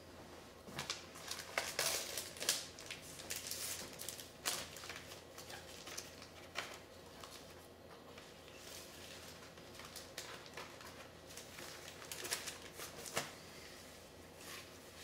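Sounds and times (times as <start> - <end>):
paper and cardboard rustling: 0.8 - 15.0.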